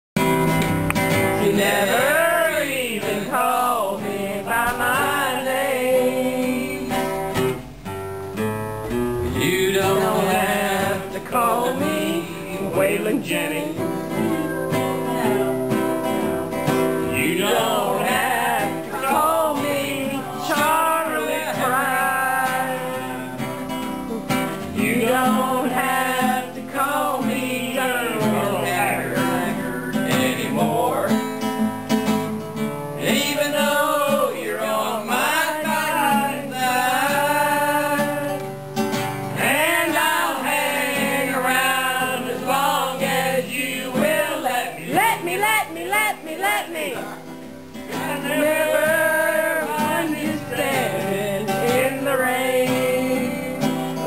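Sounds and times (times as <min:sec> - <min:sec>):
acoustic guitar strumming: 0:00.2 - 0:54.0
man singing: 0:01.4 - 0:07.1, 0:09.2 - 0:16.2, 0:17.1 - 0:23.6, 0:24.2 - 0:31.3, 0:33.0 - 0:38.4, 0:39.4 - 0:47.3, 0:47.9 - 0:54.0.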